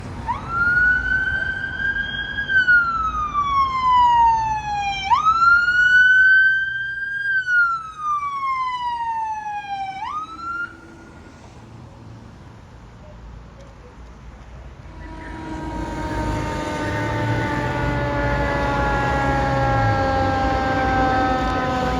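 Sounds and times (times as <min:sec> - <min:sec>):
fire siren wailing: 0:00.0 - 0:11.6, 0:14.8 - 0:21.9.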